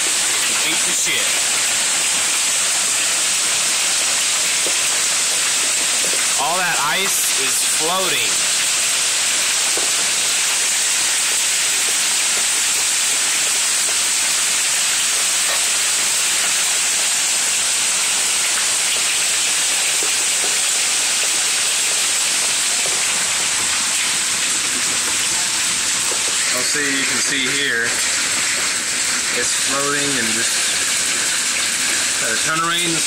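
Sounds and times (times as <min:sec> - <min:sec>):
heavy rain pouring: 0:00.0 - 0:33.0
water running over ground: 0:00.0 - 0:33.0.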